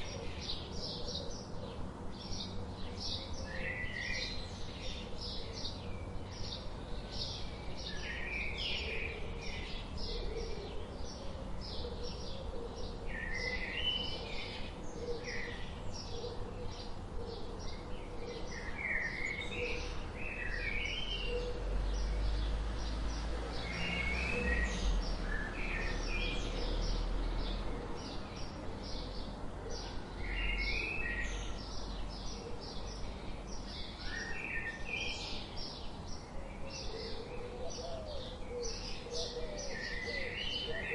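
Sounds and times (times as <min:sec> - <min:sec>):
warbled bird song: 0:00.0 - 0:40.9.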